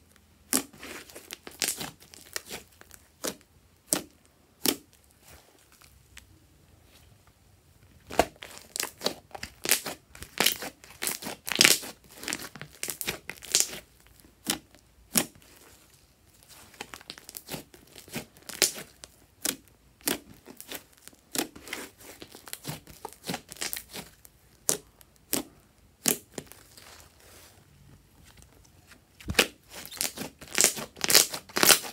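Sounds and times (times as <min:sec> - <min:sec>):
slime crackling and popping: 0:00.5 - 0:05.0, 0:08.1 - 0:27.0, 0:29.2 - 0:31.9.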